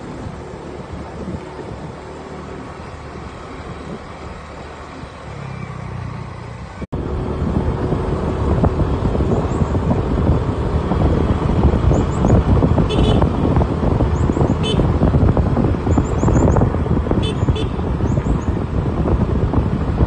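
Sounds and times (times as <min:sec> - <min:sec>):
vehicle rumble on road: 0:00.0 - 0:20.0
wind buffeting microphone: 0:00.0 - 0:20.0.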